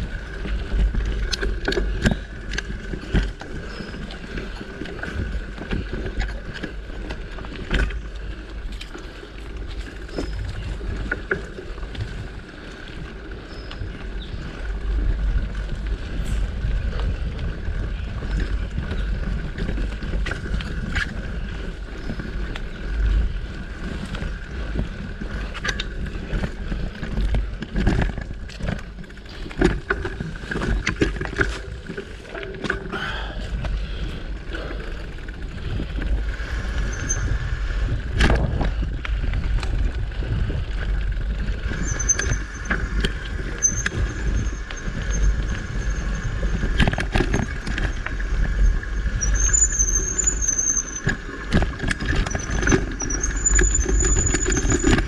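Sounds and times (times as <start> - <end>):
bike knocks and rattles: 0.0 - 55.0
bike tyres rumbling on dirt: 0.0 - 55.0
wind on microphone: 9.7 - 55.0.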